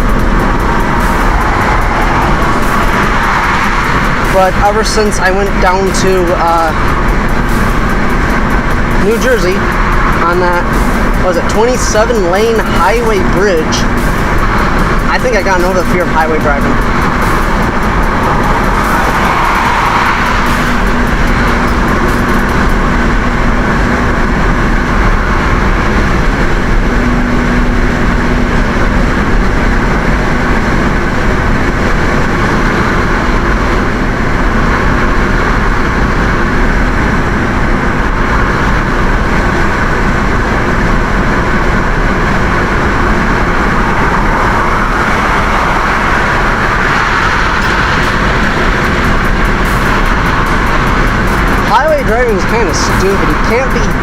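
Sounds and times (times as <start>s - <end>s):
car tyre noise: 0.0s - 54.0s
wind rush through open window: 0.0s - 54.0s.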